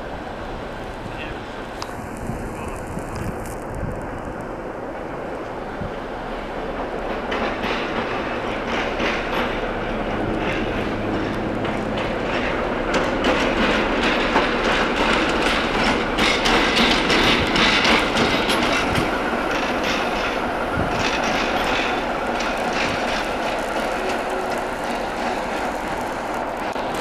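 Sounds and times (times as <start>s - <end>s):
train wheels clacking on rail joints: 0.9s - 27.0s.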